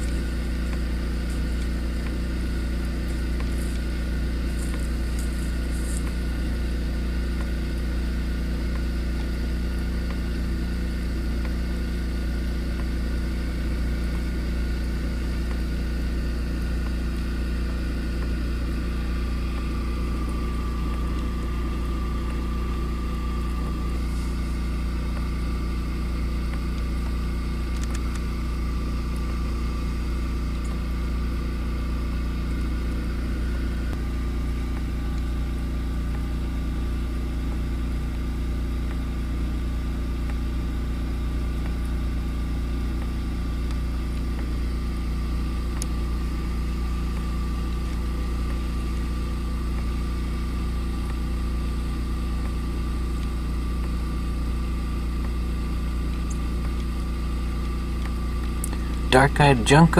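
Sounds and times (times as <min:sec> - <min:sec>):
engine idling hum: 0:00.0 - 0:59.9.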